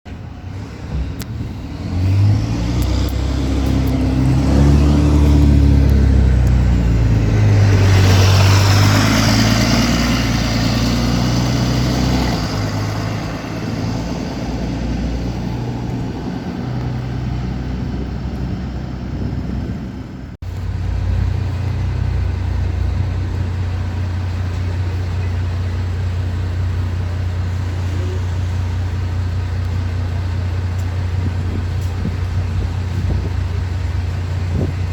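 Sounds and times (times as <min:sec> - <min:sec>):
bus diesel engine accelerating: 0:00.1 - 0:34.9.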